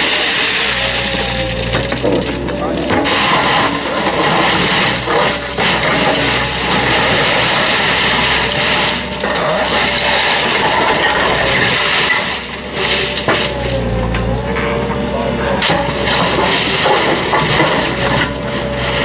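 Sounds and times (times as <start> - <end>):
ballast stones crunching: 0.0 - 14.5, 15.6 - 19.0
excavator engine under load: 0.0 - 19.0.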